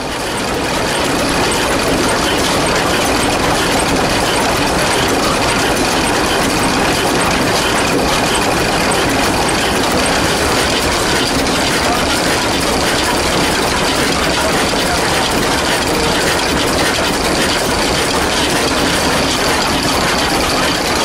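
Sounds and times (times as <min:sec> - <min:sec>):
diesel engine clattering: 0:00.0 - 0:21.0.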